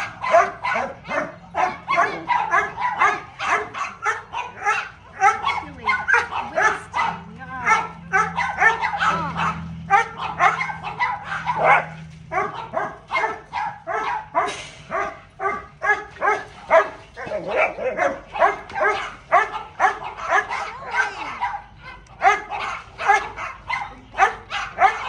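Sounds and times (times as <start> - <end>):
dog yipping and barking: 0.0 - 25.0.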